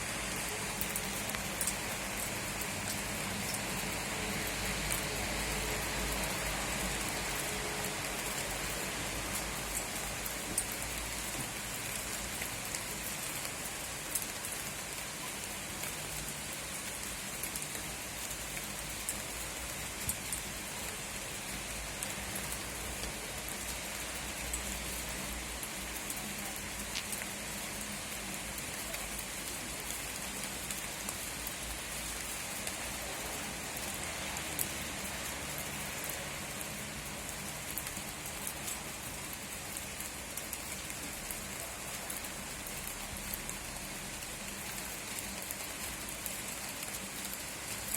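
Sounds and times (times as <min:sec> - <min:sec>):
steady rain hiss: 0:00.0 - 0:47.9
raindrops ticking: 0:00.4 - 0:47.9.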